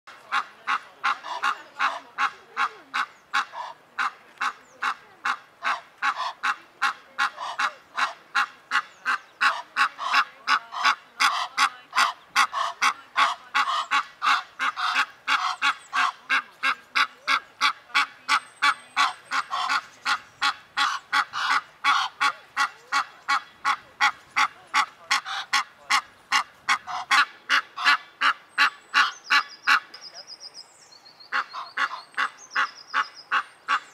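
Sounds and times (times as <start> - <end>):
goose honking: 0.2 - 29.9.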